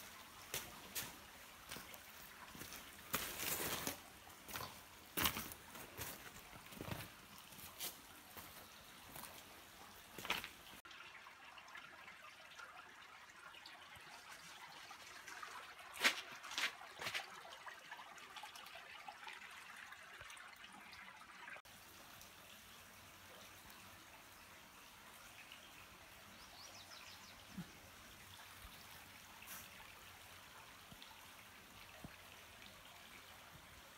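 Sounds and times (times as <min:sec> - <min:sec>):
creek trickling: 0:00.0 - 0:33.9.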